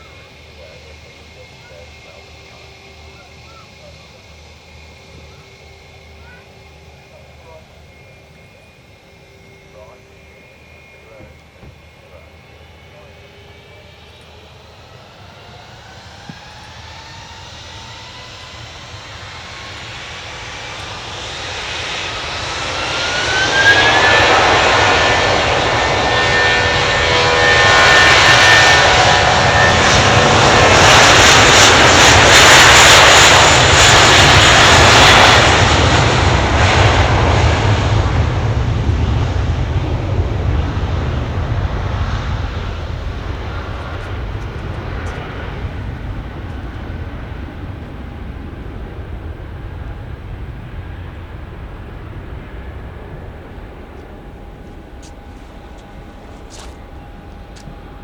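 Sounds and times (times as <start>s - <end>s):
jet engines on takeoff: 0.0s - 58.0s.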